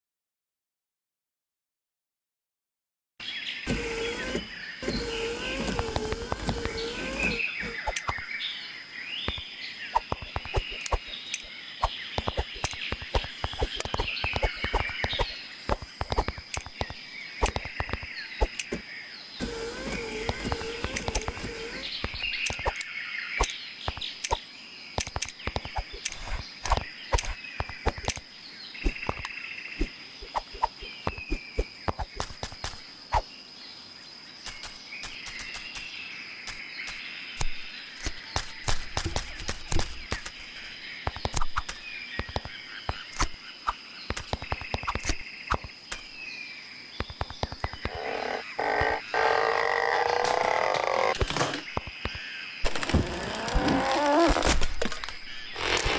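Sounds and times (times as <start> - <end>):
frogs croaking: 4.4 - 55.9.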